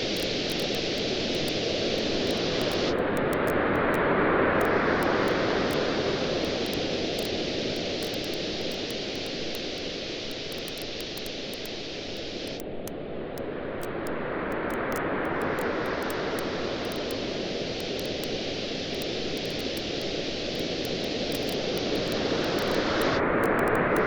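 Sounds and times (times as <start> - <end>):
campfire crackling: 0.0 - 3.9, 4.6 - 23.7
waves washing onto beach: 0.0 - 12.6, 13.2 - 24.0.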